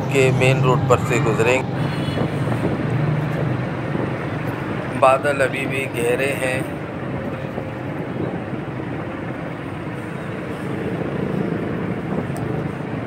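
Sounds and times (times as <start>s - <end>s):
motorcycles passing: 0.0s - 13.0s
road traffic noise: 0.0s - 13.0s.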